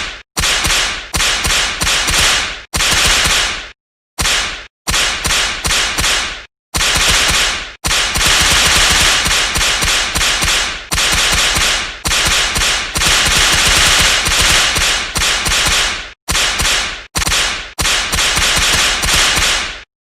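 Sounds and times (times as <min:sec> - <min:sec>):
whip cracks: 0:00.0 - 0:19.9.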